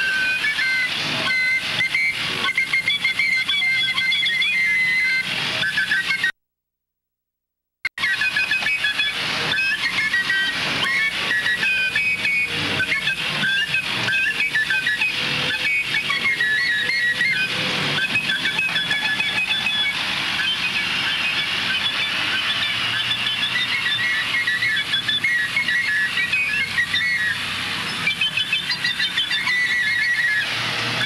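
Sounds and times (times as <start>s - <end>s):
shrill whistle-like tones: 0.0s - 6.4s, 7.9s - 31.0s.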